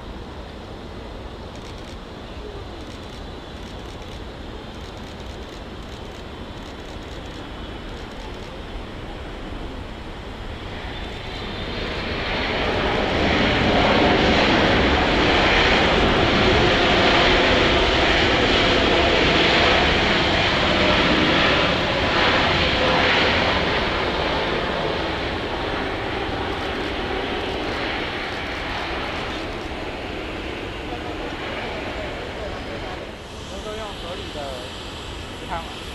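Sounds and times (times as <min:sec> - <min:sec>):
jet engines roaring: 0:00.0 - 0:35.9.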